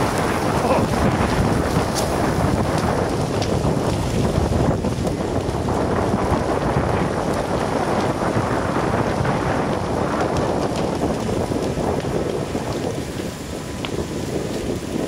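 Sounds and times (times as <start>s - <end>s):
rushing flames crackling: 0.0s - 15.0s
wind buffeting microphone: 0.0s - 15.0s.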